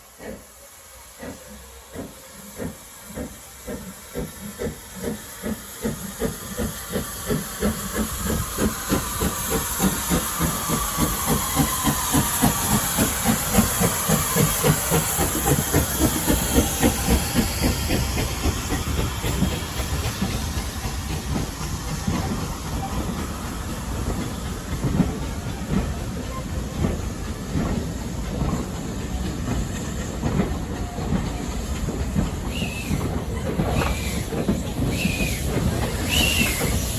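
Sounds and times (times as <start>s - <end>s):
steam hiss: 0.0s - 36.9s
steam locomotive exhaust chuffs: 0.0s - 36.9s
train rolling rumble: 0.0s - 36.9s.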